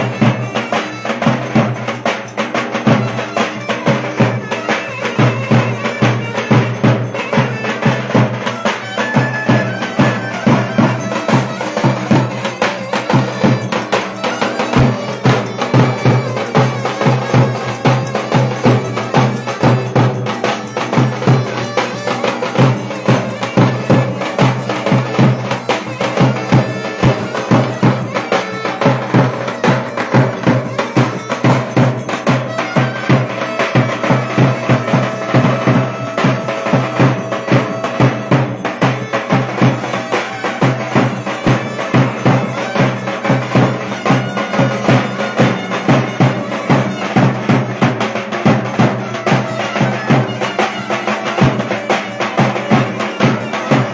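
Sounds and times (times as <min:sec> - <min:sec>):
percussion beat: 0:00.0 - 0:53.9
reedy wind instrument melody: 0:00.0 - 0:53.9.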